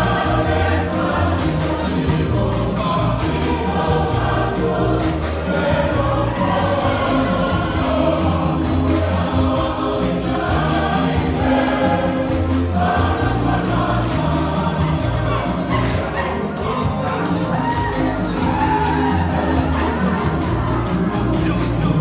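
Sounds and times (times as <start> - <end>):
church choir singing a hymn: 0.0 - 22.0.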